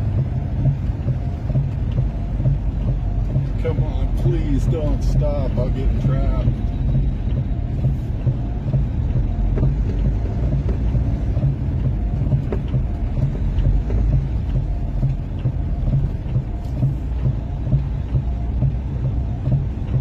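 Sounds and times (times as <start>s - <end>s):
vehicle engine drone from inside cab: 0.0s - 20.0s.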